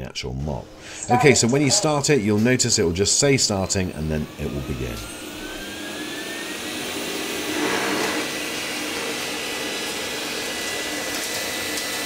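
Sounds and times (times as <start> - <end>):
robot vacuum fan whine: 0.8 - 12.0.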